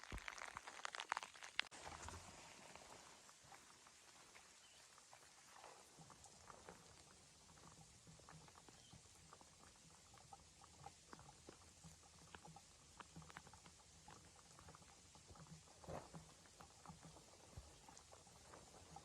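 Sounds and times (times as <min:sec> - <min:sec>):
faint clicks and ticks: 0:03.4 - 0:19.0.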